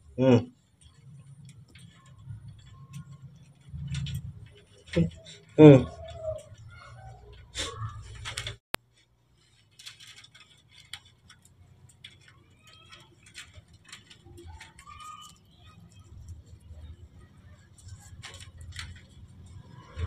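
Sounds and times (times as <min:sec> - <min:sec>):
leaves and twigs rustling: 0:00.5 - 0:20.0.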